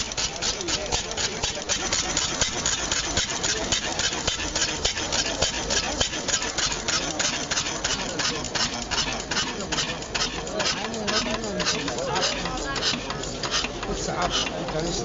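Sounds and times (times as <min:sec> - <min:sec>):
steam engine running: 0:00.0 - 0:15.0.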